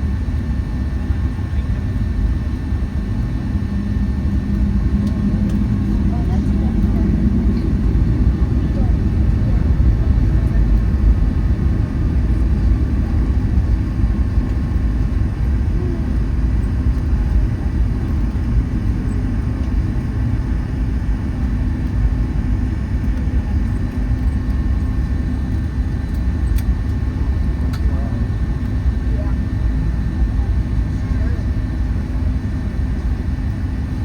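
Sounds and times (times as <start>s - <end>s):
aircraft cabin rumble: 0.0s - 34.0s.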